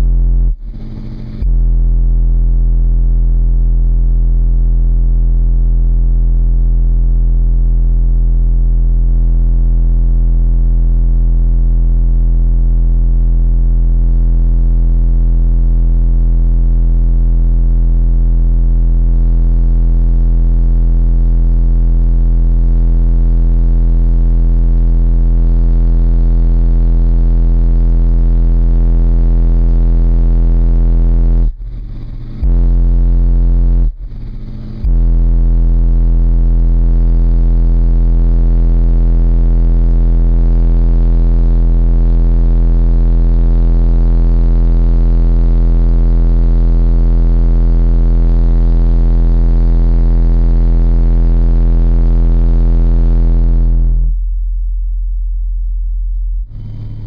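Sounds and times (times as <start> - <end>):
loud low bass test tone: 0.0 - 42.6, 43.3 - 47.2, 47.9 - 57.0.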